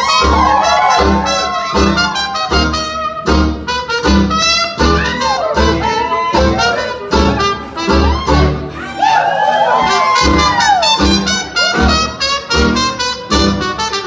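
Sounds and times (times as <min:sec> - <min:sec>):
brassy jazz dance music: 0:00.0 - 0:14.0.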